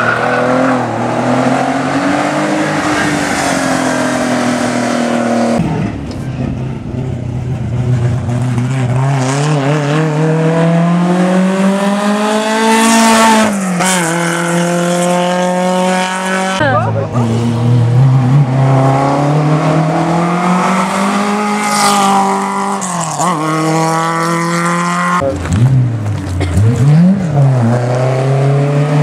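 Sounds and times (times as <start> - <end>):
racing car engine at high revs: 0.0 - 6.9, 7.6 - 29.0.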